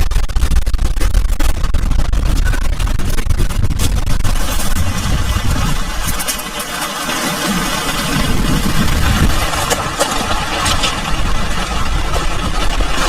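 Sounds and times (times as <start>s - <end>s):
heavy rain: 0.0s - 13.0s
sharp pattering hits: 0.0s - 13.0s
wind rumbling on microphone: 0.0s - 13.0s.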